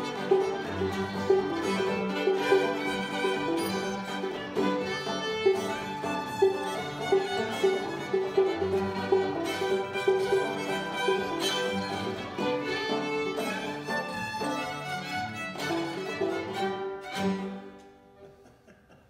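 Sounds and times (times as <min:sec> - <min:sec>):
string band playing: 0:00.0 - 0:18.2.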